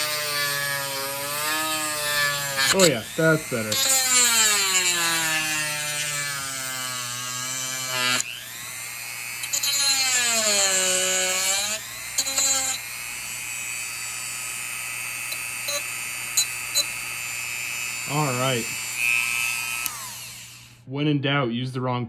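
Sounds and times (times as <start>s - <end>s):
rotary tool cutting wood: 0.0s - 20.8s.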